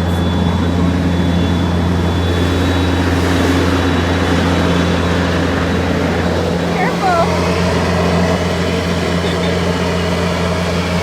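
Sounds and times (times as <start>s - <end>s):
small aircraft engine drone: 0.0s - 11.0s.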